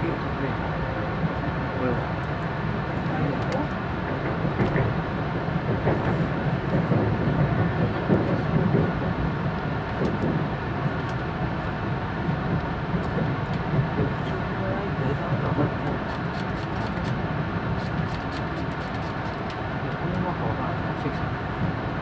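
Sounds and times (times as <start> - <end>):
train cabin rumble: 0.0 - 22.0.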